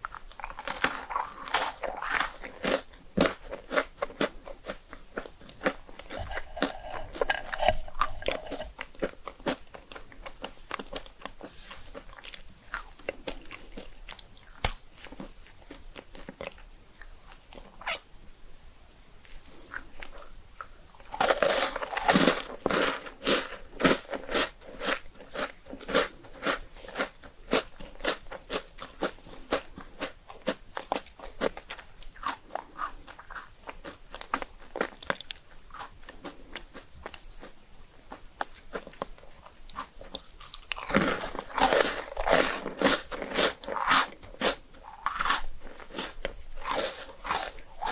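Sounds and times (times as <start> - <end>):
crunching and chewing rice cakes: 0.0 - 18.0, 19.4 - 47.9.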